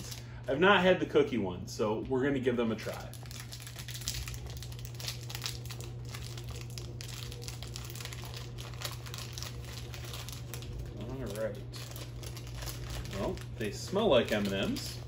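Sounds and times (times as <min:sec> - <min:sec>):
plastic bag crinkling and tearing: 0:00.0 - 0:00.4, 0:02.8 - 0:15.0.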